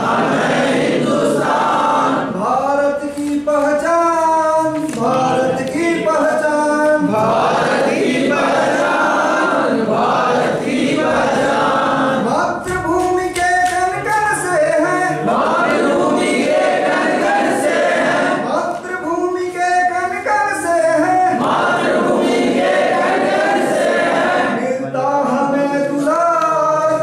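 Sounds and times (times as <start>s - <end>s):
men singing together: 0.0s - 12.8s, 13.4s - 18.8s, 20.6s - 27.0s.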